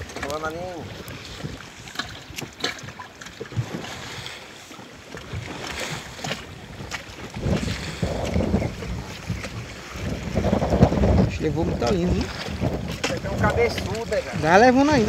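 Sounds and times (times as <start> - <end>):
wind buffeting microphone: 0.0 - 4.3, 5.1 - 15.0
sea noise: 0.0 - 15.0.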